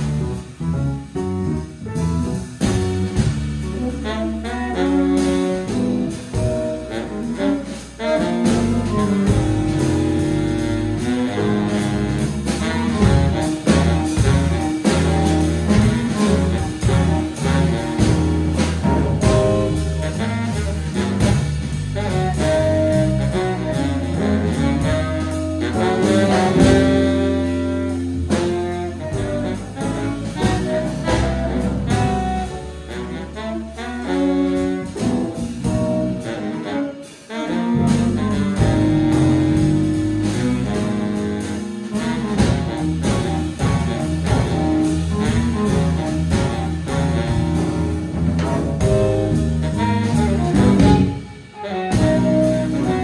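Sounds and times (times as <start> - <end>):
baritone saxophone: 0.0 - 53.0
jazz band playing: 0.0 - 53.0.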